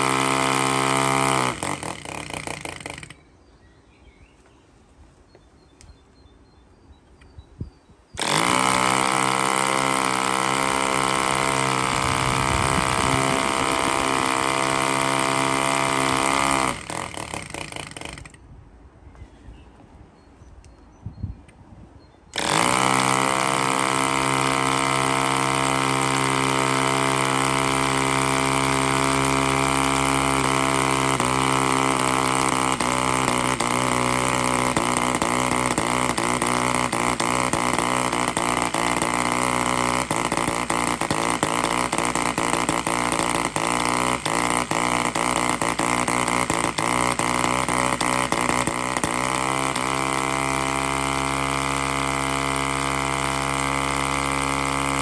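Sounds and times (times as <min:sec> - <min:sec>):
model engine running: 0:00.0 - 0:03.2, 0:08.2 - 0:18.4, 0:22.3 - 0:55.0.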